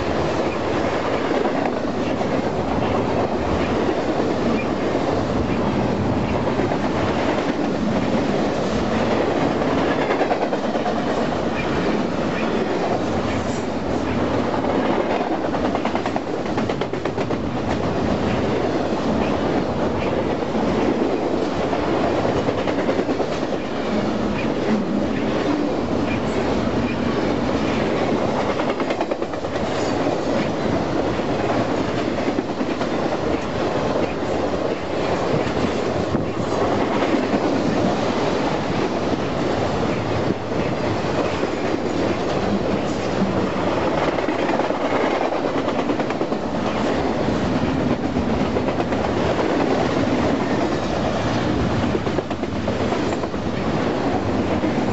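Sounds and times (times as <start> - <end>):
freight train wheels clacking: 0.0 - 54.9.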